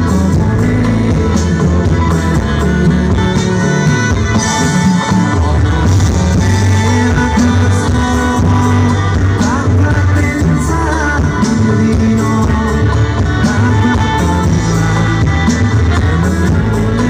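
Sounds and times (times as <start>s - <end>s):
drums: 0.0s - 17.0s
electric guitar: 0.0s - 17.0s
keyboard: 0.0s - 17.0s
loud bass line: 0.0s - 17.0s.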